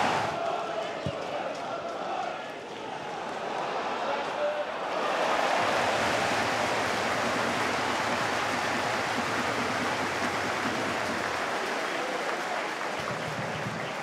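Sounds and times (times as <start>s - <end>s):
stadium crowd voices: 0.0s - 14.0s.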